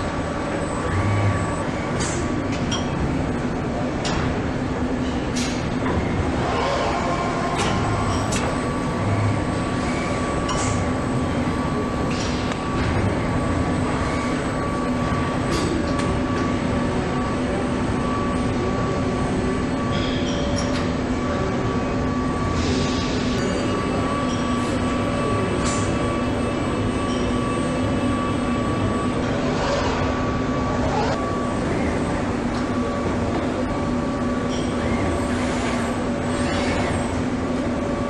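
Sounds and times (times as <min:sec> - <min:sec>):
machinery humming with high whine: 0:00.0 - 0:38.0.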